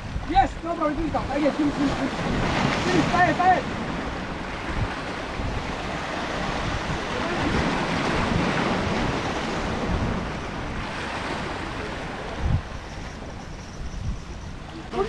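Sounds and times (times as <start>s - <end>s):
waves breaking on rocks: 0.0s - 13.8s
wind on microphone: 0.0s - 15.0s.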